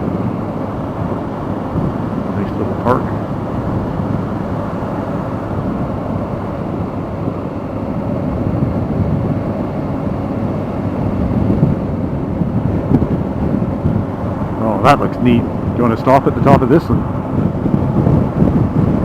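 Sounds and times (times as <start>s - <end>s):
motorcycle engine drone: 0.0s - 19.0s
wind rumble on microphone: 0.0s - 19.0s.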